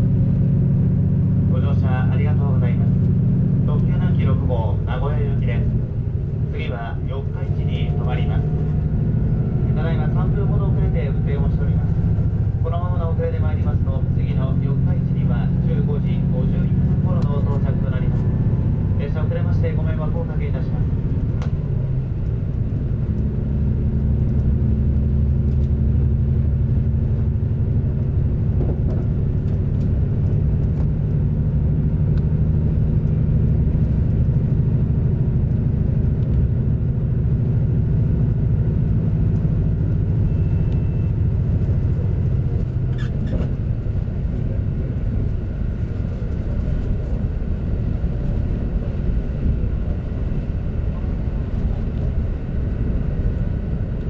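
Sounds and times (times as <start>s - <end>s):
diesel engine drone: 0.0s - 54.0s
train running rumble: 0.0s - 54.0s.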